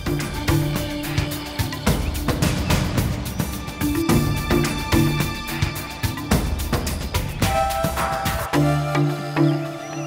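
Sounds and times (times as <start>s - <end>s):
soundtrack music: 0.0s - 10.0s.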